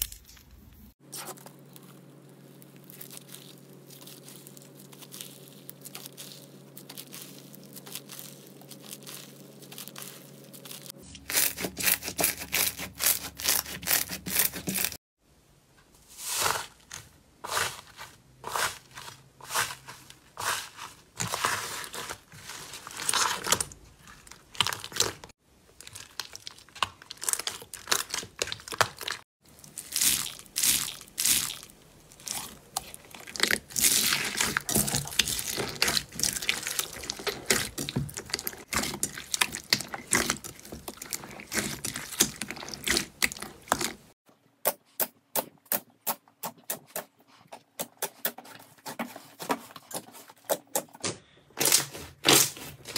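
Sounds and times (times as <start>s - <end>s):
slime crackling and crunching: 0.0s - 15.0s, 16.2s - 44.2s.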